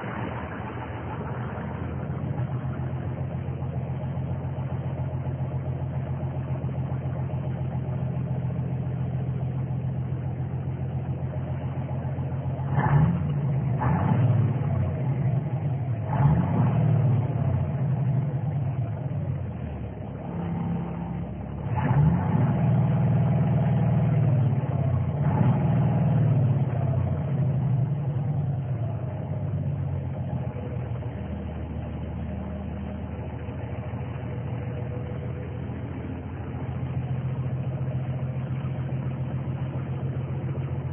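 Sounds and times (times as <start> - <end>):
truck diesel engine revving: 0.0 - 40.9.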